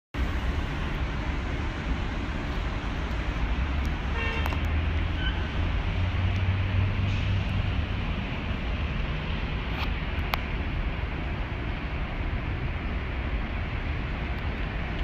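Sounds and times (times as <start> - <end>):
city traffic rumble: 0.1 - 15.0.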